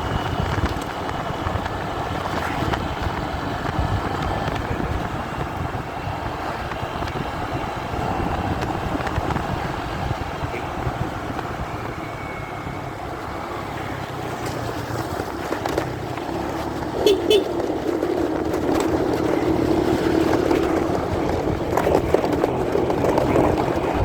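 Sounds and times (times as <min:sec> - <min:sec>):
muffled wind and road rumble: 0:00.0 - 0:24.0.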